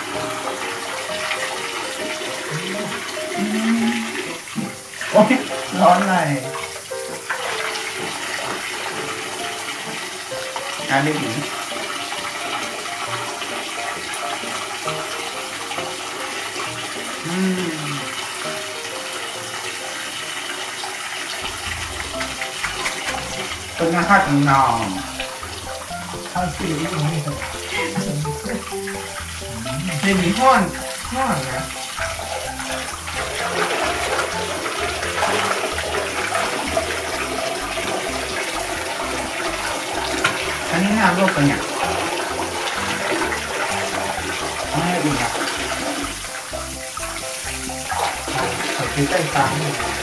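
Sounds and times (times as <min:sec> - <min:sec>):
tap water running into bathtub: 0:00.0 - 0:50.0.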